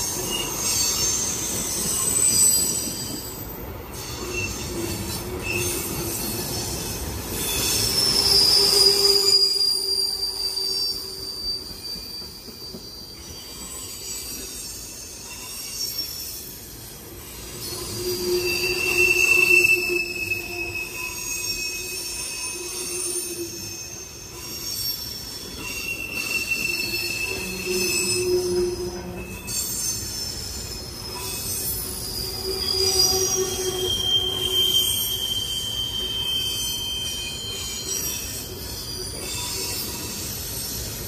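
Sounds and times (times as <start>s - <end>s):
rumble of wheels on track: 0.0s - 41.0s
steel wheels squealing on rail: 0.0s - 41.0s.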